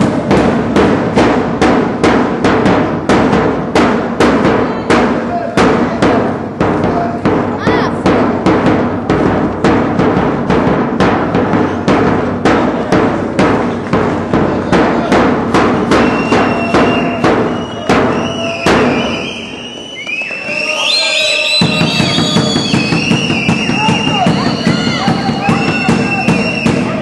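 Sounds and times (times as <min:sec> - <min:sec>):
thumping beat: 0:00.0 - 0:20.3, 0:21.5 - 0:27.0
gym din: 0:00.0 - 0:27.0.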